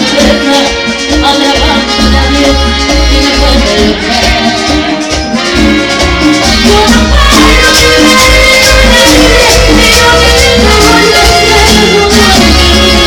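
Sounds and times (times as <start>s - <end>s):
latin band music over loudspeakers: 0.0s - 13.0s.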